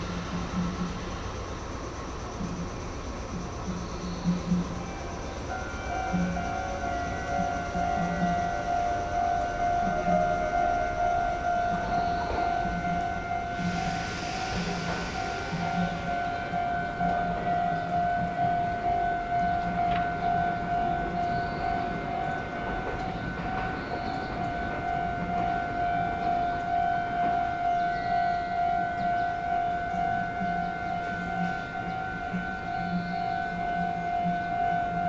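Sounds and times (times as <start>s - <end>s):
level-crossing alarm dinging: 0.0s - 35.0s.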